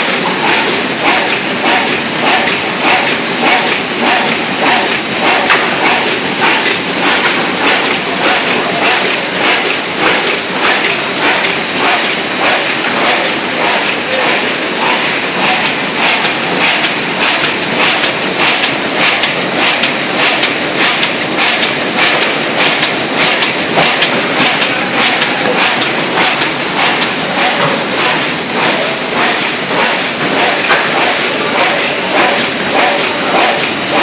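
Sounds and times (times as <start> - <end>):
die-cutting machine clattering: 0.0 - 34.0.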